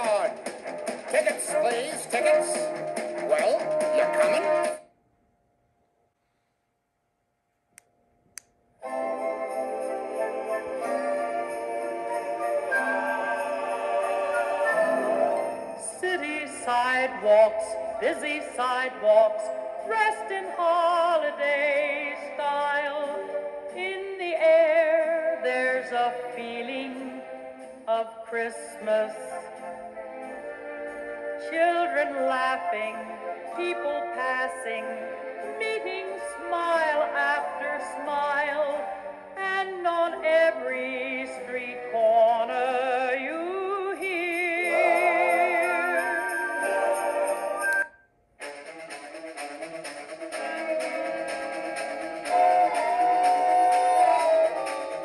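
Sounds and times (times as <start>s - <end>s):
music with singing voice: 0.0s - 4.8s, 8.8s - 55.0s.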